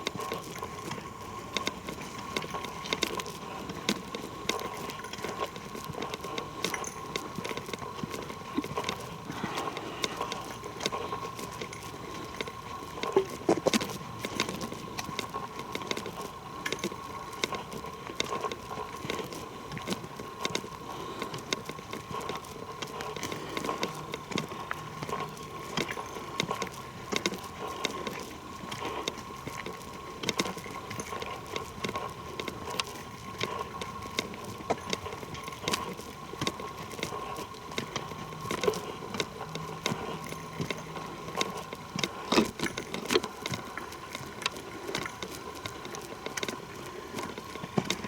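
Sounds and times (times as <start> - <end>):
footsteps crunching on trail: 0.0 - 48.0.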